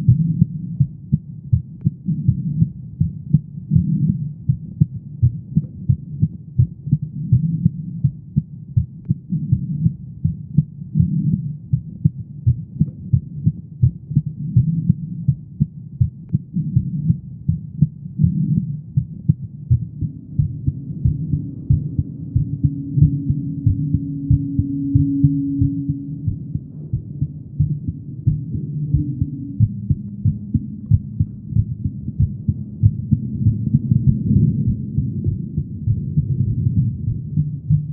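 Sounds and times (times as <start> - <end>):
heartbeat thumps: 0.0 - 37.9
steady low hum: 0.0 - 37.9.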